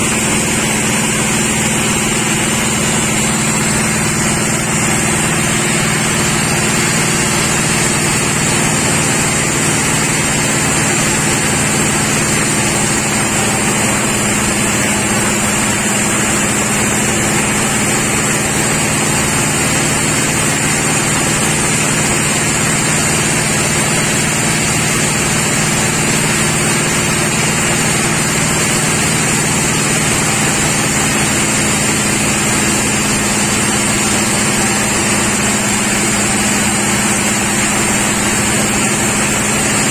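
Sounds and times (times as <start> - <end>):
sawmill machinery hum and whine: 0.0 - 39.9.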